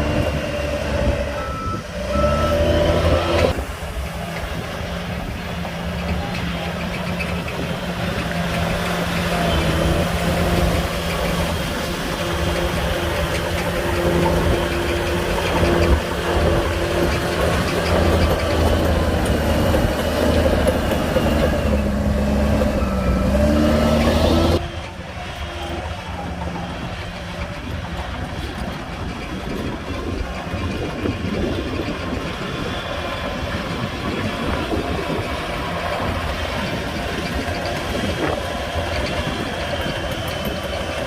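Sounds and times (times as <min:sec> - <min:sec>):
diesel machinery engine: 0:00.0 - 0:41.0.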